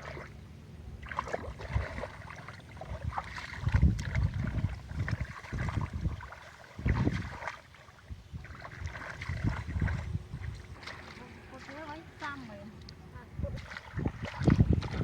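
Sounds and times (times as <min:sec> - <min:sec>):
water sloshing: 0:00.0 - 0:15.0
wind on microphone: 0:00.8 - 0:02.2, 0:02.8 - 0:15.0.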